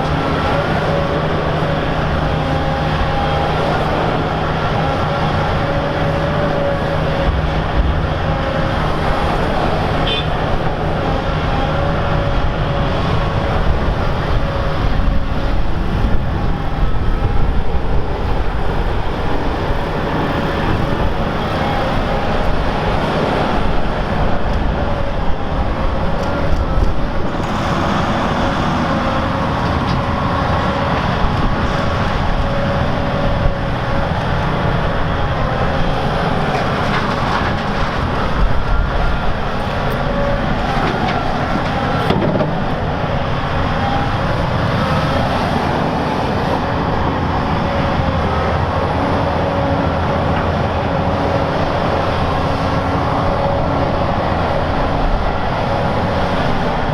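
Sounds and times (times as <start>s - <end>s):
diesel engine drone with whine: 0.0s - 56.9s.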